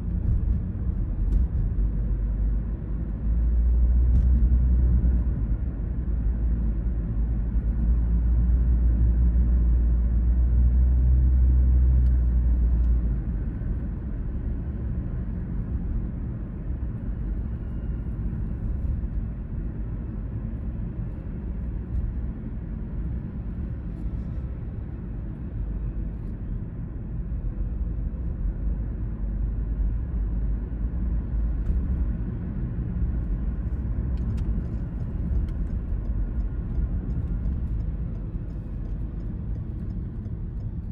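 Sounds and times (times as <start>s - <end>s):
car engine rumble: 0.0s - 40.9s
tyre road noise: 0.0s - 40.9s.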